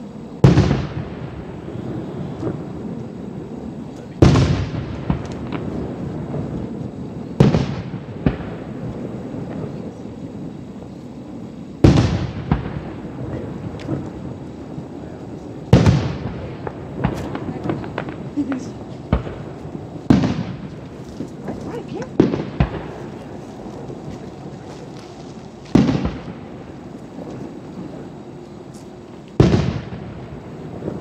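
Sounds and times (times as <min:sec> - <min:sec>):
firework booms echoing: 0:00.0 - 0:31.0
firework pops: 0:00.4 - 0:01.4, 0:03.9 - 0:11.2, 0:11.8 - 0:14.4, 0:15.3 - 0:31.0.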